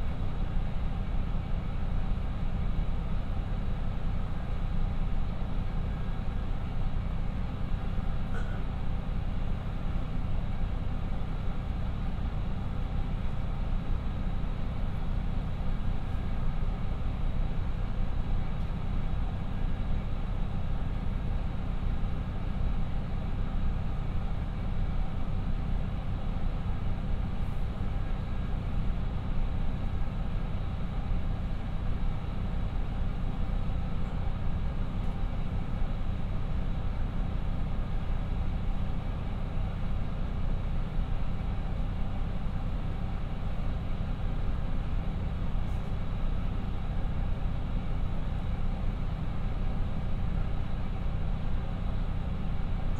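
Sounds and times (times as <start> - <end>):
diesel engines idling: 0.0 - 52.9.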